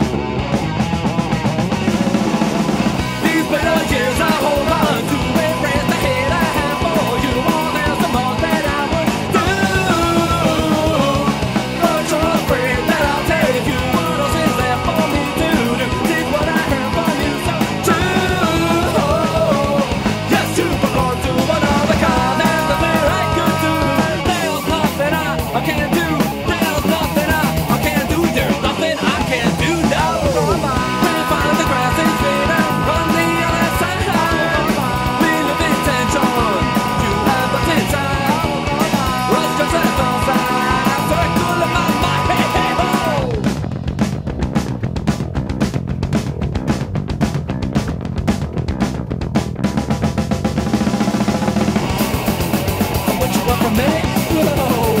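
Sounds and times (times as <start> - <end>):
pop-punk band playing: 0.0 - 55.0
steady drumbeat: 0.0 - 55.0.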